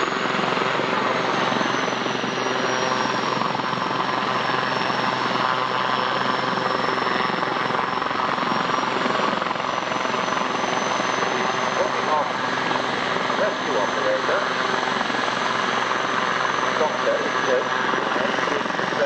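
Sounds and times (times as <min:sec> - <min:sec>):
helicopter rotor chop: 0:00.0 - 0:19.0
high turbine whine: 0:00.0 - 0:19.0.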